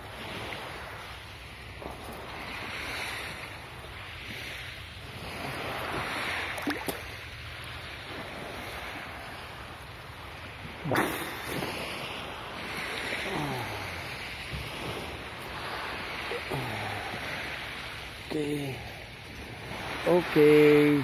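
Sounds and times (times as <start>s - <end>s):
sea water lapping: 0.0s - 21.0s.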